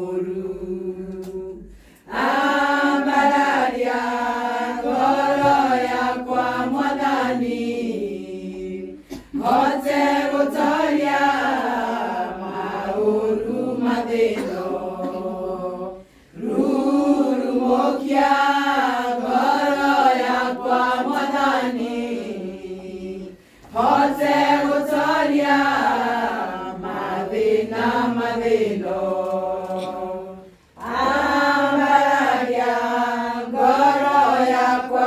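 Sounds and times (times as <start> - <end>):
women singing together: 0.0 - 35.0.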